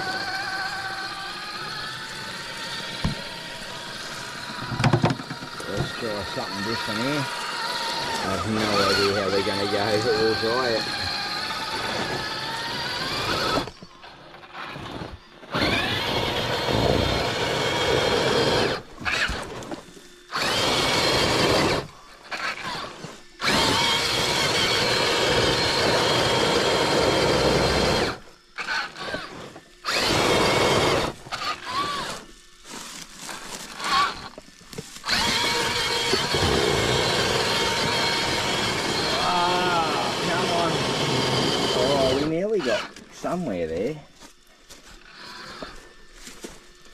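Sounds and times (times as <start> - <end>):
toy car electric motor whining: 0.0 - 46.9.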